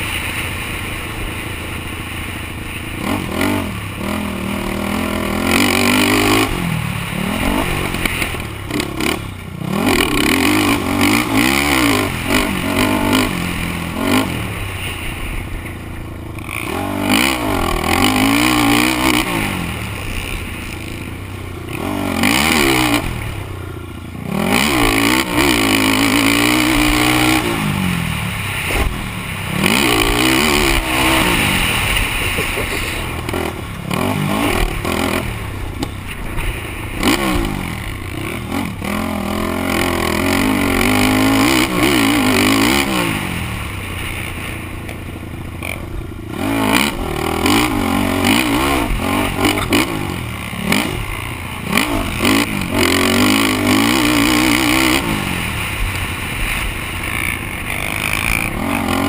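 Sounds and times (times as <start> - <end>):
quad engine revving: 0.0 - 59.0
rough ground noise: 0.0 - 59.0.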